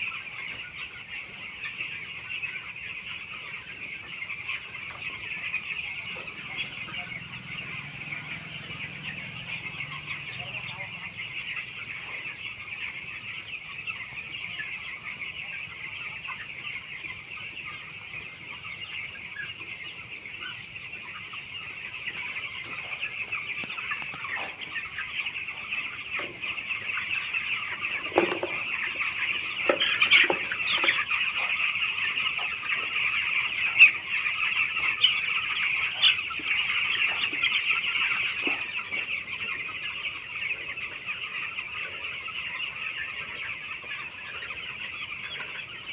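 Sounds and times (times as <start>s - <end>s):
chicks peeping and chirping: 0.0s - 45.9s.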